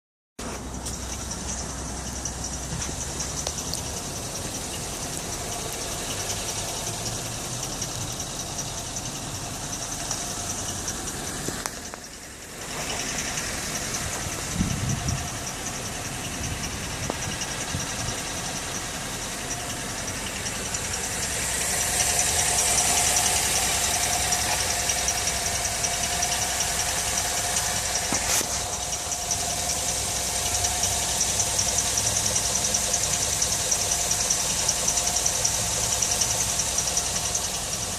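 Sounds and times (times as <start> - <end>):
car engine idling: 0.4 - 37.9
high-pitched metallic chirping: 0.4 - 37.9.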